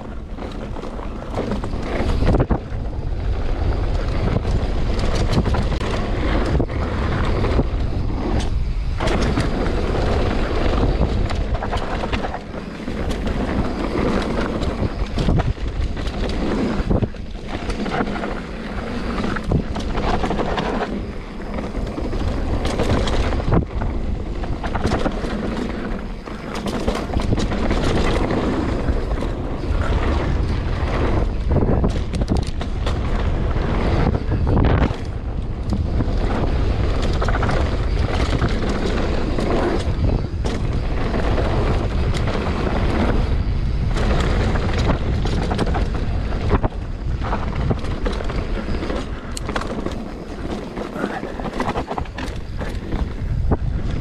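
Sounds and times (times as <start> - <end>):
bike knocks and rattles: 0.0 - 54.0
tyre rumble on dirt trail: 0.0 - 54.0
wind buffeting microphone: 0.0 - 54.0.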